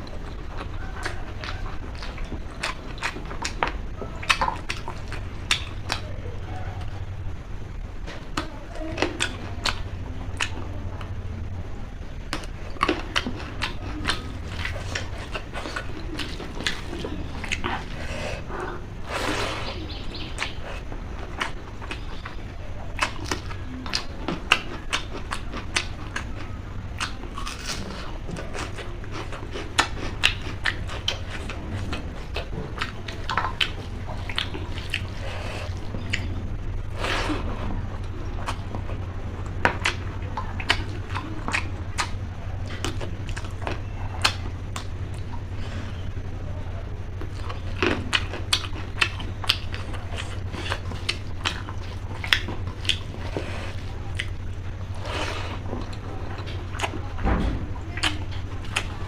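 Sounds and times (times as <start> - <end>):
chewing with wet mouth clicks: 0.0 - 7.1, 8.0 - 11.2, 12.1 - 46.1, 46.9 - 59.0
steady low hum: 0.0 - 59.0.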